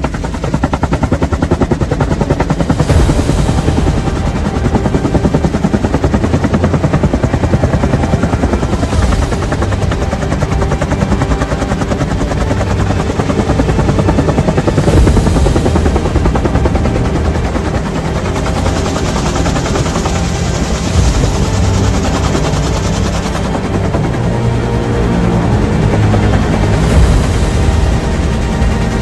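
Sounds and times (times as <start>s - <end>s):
helicopter rotor beating: 0.0s - 29.0s.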